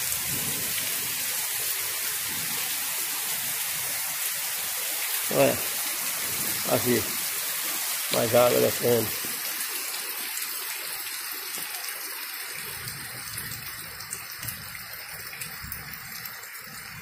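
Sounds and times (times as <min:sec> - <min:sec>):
heavy rain falling: 0:00.0 - 0:17.0
runoff water flowing: 0:00.0 - 0:17.0.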